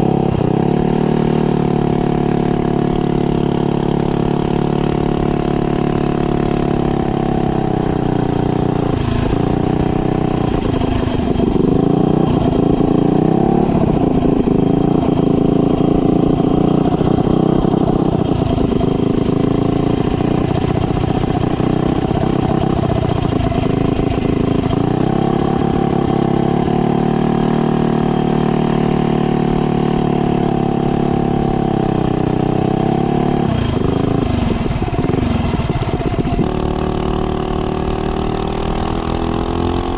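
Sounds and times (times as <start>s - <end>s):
minibike engine revving: 0.0s - 39.9s.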